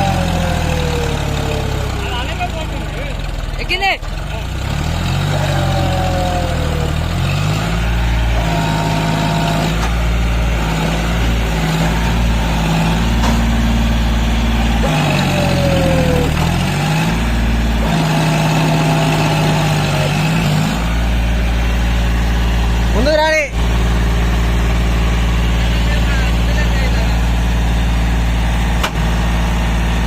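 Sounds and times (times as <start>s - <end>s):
tractor diesel engine revving: 0.0s - 30.0s.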